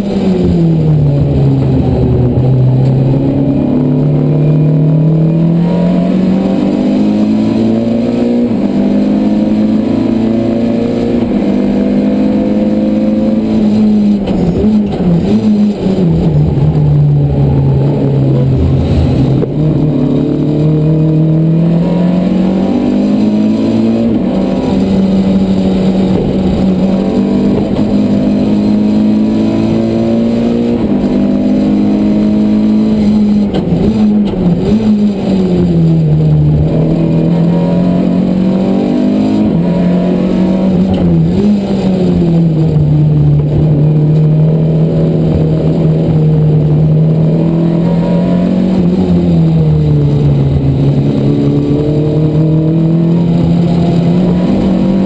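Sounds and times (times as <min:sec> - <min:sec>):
race car engine at high revs: 0:00.0 - 0:55.0.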